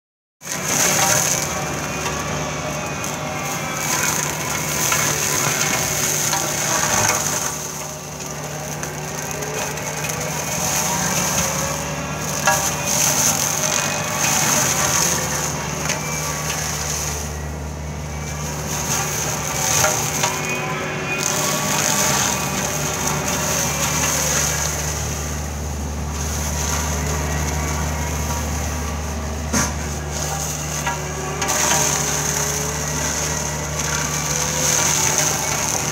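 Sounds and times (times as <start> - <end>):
diesel engine running: 0.4 - 35.9
mulcher head whining: 0.4 - 35.9.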